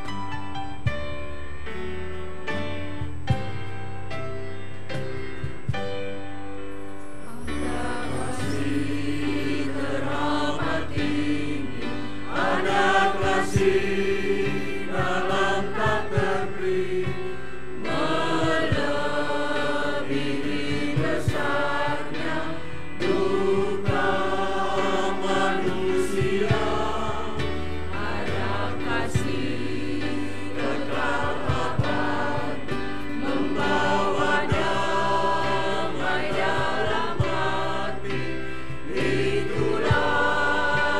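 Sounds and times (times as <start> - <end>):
piano accompaniment: 0.0 - 40.9
choir singing a hymn: 7.2 - 40.9.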